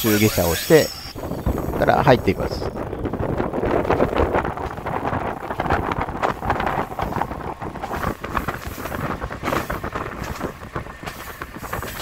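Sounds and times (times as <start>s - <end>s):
diesel railcar running: 0.0s - 12.0s
wind gusting over microphone: 0.0s - 12.0s.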